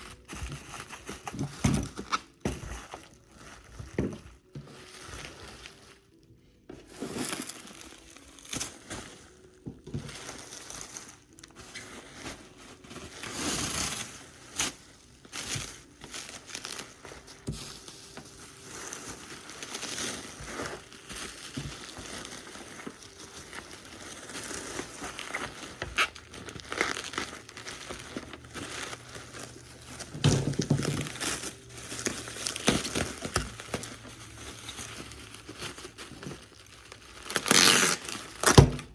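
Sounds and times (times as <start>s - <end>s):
packing material crumpling: 0.0s - 38.9s.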